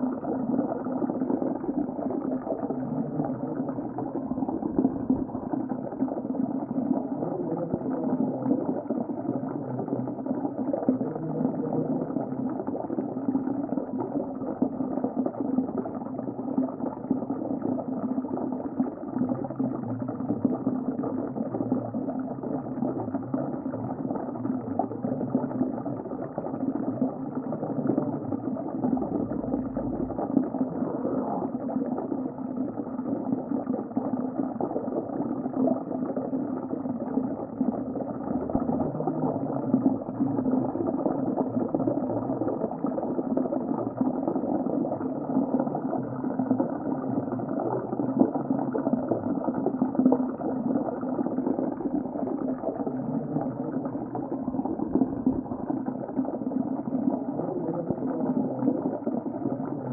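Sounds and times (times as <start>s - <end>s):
underwater rushing: 0.0s - 19.1s, 19.7s - 59.9s
bubbling crackle: 0.0s - 59.9s.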